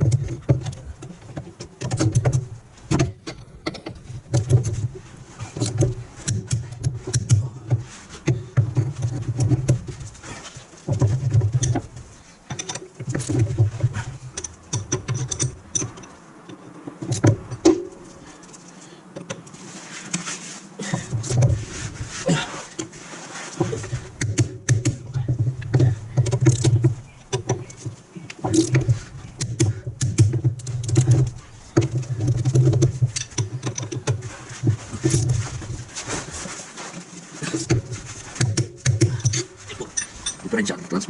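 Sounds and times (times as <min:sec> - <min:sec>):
metallic clicks and knocks: 0:00.0 - 0:10.2, 0:10.8 - 0:19.6, 0:23.6 - 0:35.9, 0:37.5 - 0:40.6.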